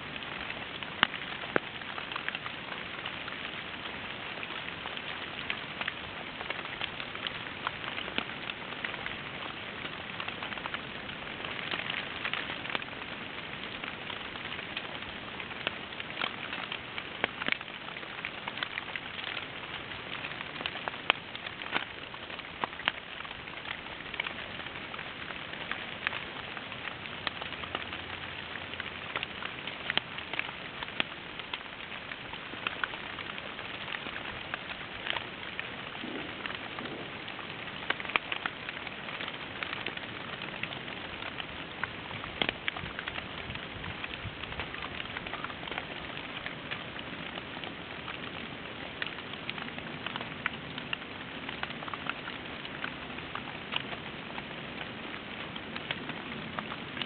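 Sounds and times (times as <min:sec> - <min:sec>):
rain pattering on leaves: 0:00.0 - 0:57.0.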